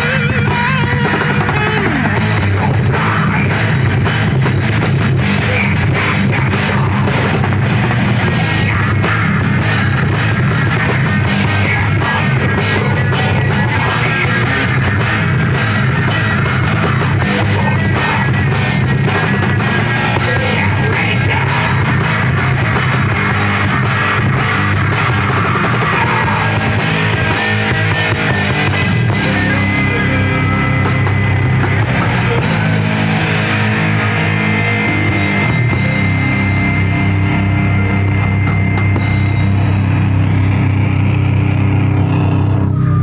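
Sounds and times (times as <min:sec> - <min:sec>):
distorted electric guitars: 0:00.0 - 0:43.0
drum kit: 0:00.0 - 0:43.0
heavy metal band playing: 0:00.0 - 0:43.0.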